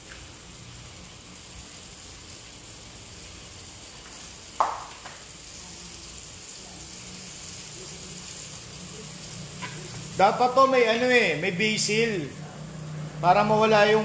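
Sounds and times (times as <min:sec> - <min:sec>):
sauce sizzling and bubbling: 0:00.0 - 0:14.0.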